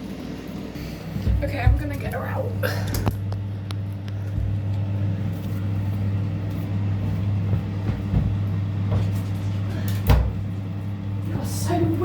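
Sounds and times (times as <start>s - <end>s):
electrical motor hum: 0.0s - 12.0s.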